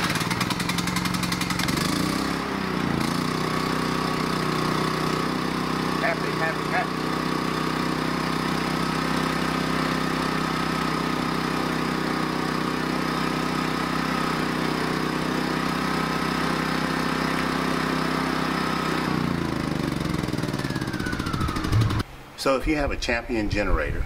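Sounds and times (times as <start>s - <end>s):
generator running: 0.0s - 22.3s.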